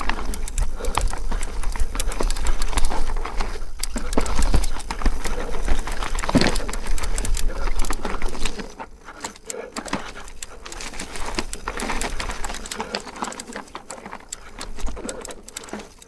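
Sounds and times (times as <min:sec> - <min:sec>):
bike clattering over rough ground: 0:00.0 - 0:16.0.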